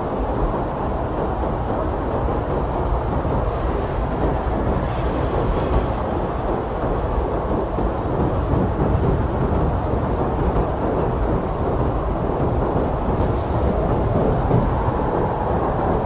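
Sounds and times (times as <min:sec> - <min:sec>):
strong blizzard wind: 0:00.0 - 0:16.0.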